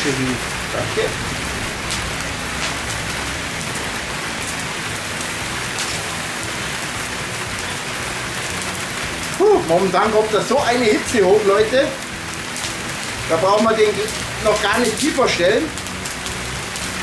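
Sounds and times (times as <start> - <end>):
logs burning with hiss: 0.0 - 17.0
sharp fire crackles: 0.0 - 17.0.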